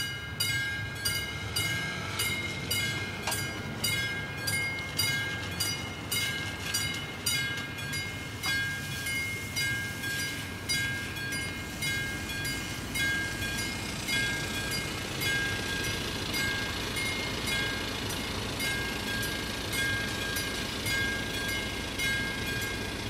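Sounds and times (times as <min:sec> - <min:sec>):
level-crossing warning bell ringing: 0:00.0 - 0:23.0.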